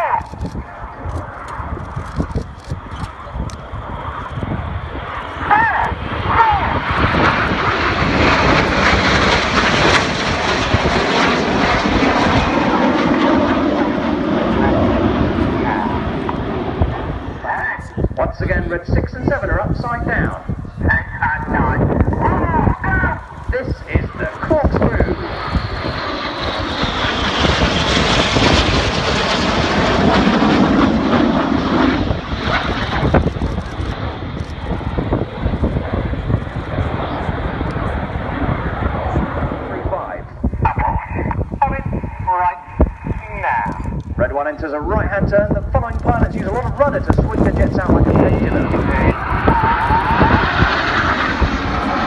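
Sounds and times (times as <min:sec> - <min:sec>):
jet aircraft roar: 0:00.0 - 0:52.0.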